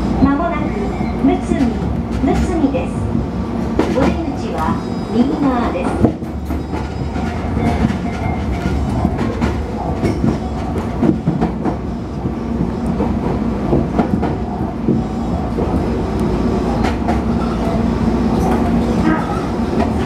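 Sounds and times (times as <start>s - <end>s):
train running rumble: 0.0s - 20.0s.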